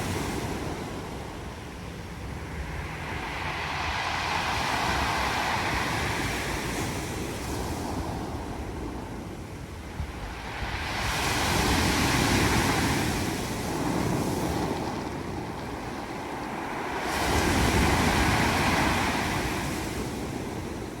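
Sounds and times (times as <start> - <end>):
waves washing on pebble beach: 2.4 - 9.1, 9.8 - 21.0.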